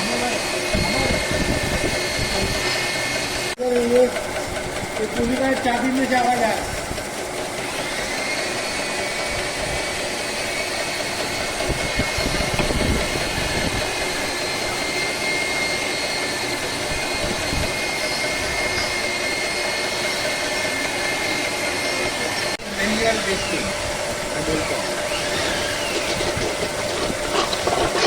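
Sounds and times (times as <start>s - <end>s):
pump humming with high whine: 0.0s - 28.0s.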